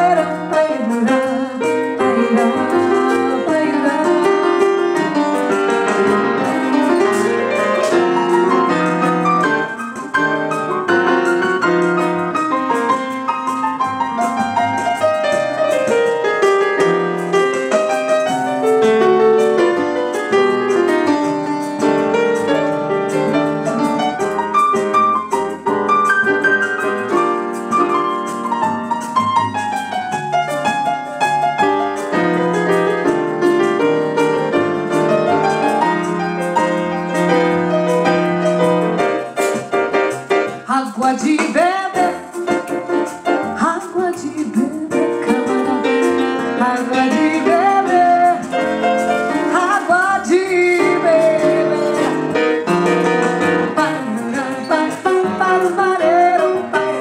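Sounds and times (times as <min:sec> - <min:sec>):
solo piano bossa nova: 0:00.0 - 0:57.0.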